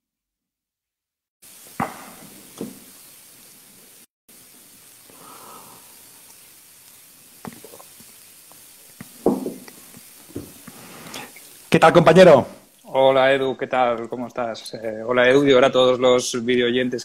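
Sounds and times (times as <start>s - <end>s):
microphone hiss: 1.4s - 17.0s.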